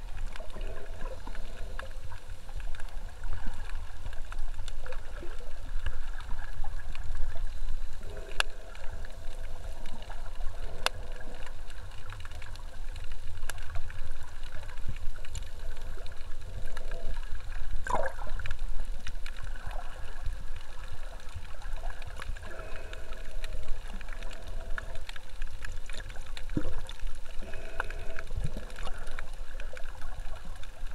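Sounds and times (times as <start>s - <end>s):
underwater rumble and wash: 0.0s - 30.9s.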